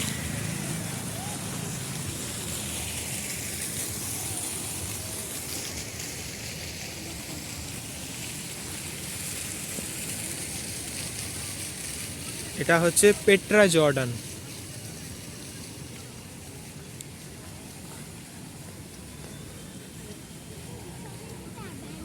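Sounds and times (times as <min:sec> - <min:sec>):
fountain water hissing: 0:00.0 - 0:22.0.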